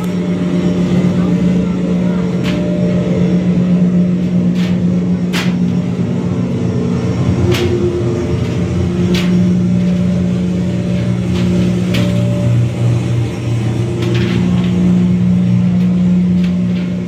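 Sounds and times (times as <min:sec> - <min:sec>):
engine room machinery drone: 0:00.0 - 0:17.0
sharp clicks and clanks: 0:00.0 - 0:17.0.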